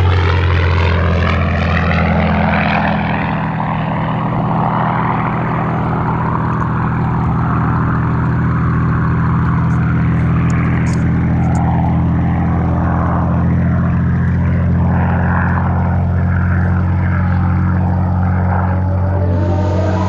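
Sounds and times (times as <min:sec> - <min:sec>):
propeller plane engine running: 0:00.0 - 0:20.0.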